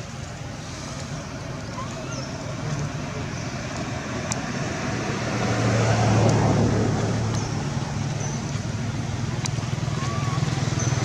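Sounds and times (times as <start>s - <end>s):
motor vehicle passing by: 0.3s - 11.0s.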